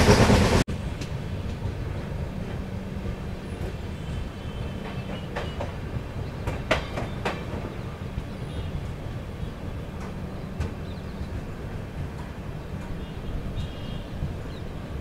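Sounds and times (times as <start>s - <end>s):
train coach rumbling: 0.0s - 15.0s
wheels clacking on rails: 0.0s - 15.0s.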